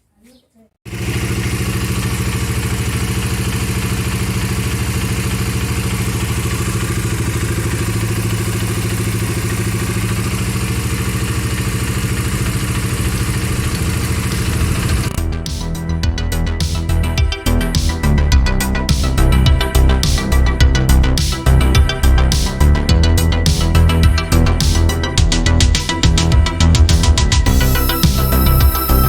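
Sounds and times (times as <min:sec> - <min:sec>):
motorcycle engine idling: 0:00.9 - 0:29.0.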